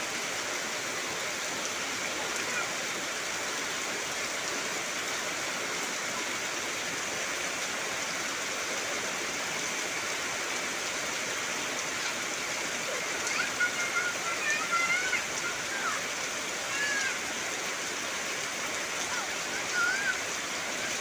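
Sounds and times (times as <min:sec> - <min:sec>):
heavy rain on trees: 0:00.0 - 0:21.0.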